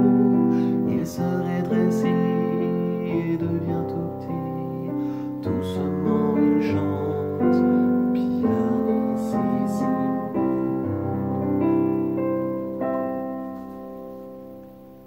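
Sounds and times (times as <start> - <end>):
man singing softly: 0.0 - 12.2
electric piano chords: 0.0 - 15.0.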